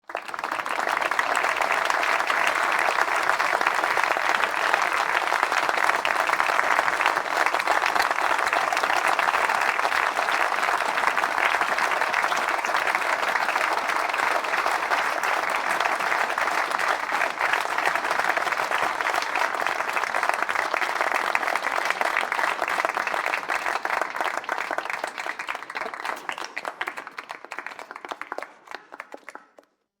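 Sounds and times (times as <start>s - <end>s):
crowd applause: 0.0s - 29.7s.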